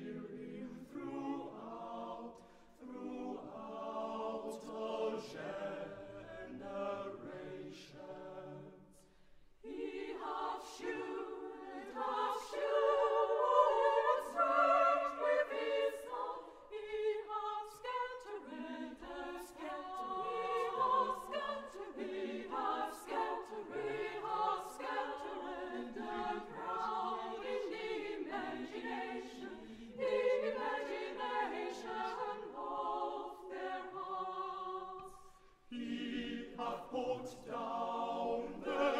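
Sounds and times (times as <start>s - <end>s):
choir singing a carol: 0.0s - 38.9s.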